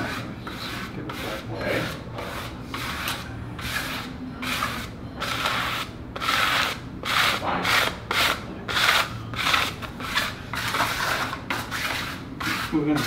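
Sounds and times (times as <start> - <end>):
squeegee rubbing on paper: 0.0 - 13.0.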